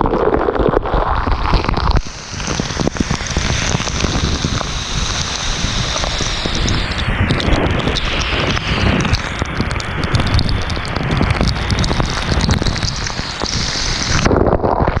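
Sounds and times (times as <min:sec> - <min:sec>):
waterfall rushing: 0:01.4 - 0:14.6.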